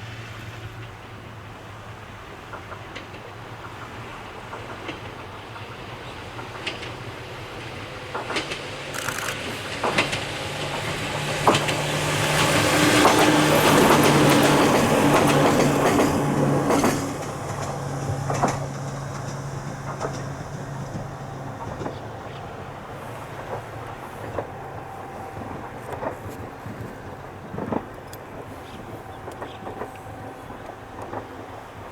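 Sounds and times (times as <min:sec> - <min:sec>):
electric train passing: 0:00.0 - 0:31.9
wheels clacking over rail joints: 0:00.0 - 0:31.9.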